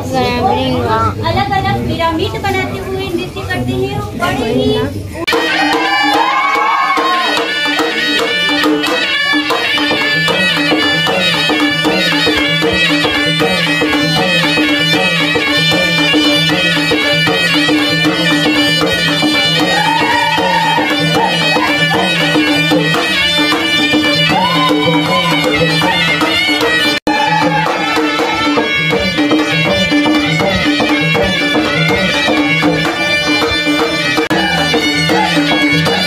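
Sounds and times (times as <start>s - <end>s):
repeating drum pattern: 5.3s - 36.0s
folk music melody: 6.7s - 36.0s.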